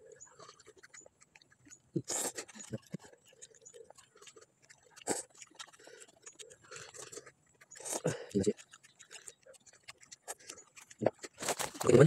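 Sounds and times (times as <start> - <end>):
faint chewing and clicks: 0.0 - 12.0.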